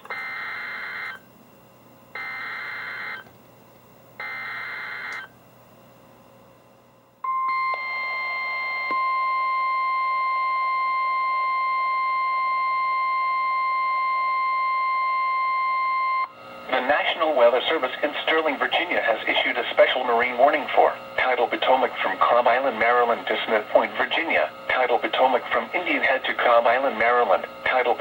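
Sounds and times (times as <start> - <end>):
steady warning alarm tone: 0.0 - 1.2, 2.2 - 3.3, 4.2 - 5.3, 7.2 - 28.0.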